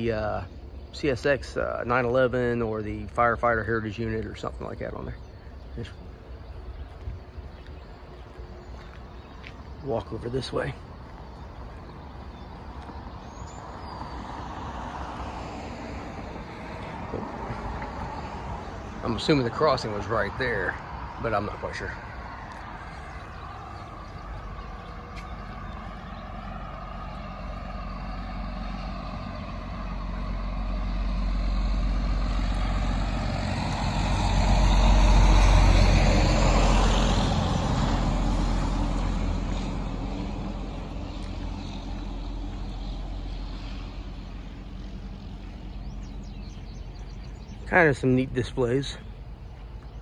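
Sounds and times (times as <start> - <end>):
vehicle passing on road: 0.0 - 50.0.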